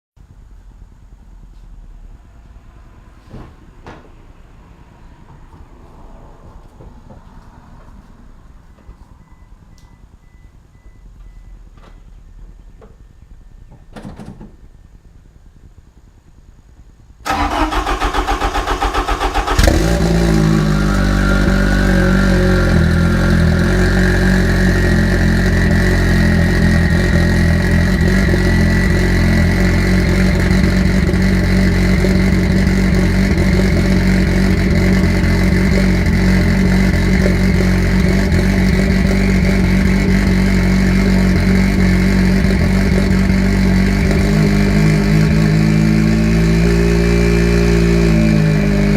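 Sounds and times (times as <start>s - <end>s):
car engine starting and idling: 9.0s - 48.9s.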